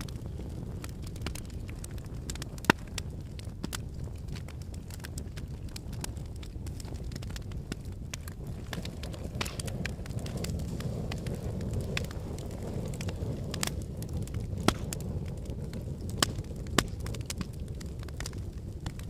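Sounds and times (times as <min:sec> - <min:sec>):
sharp pops of burning logs: 0:00.0 - 0:19.0
wood fire crackling: 0:00.0 - 0:19.0.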